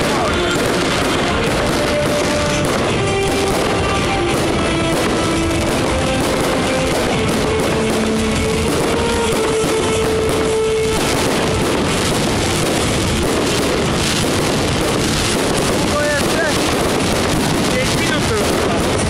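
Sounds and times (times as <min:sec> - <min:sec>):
fireworks crackling and popping: 0:00.0 - 0:19.0
loud amplified music: 0:00.0 - 0:19.0.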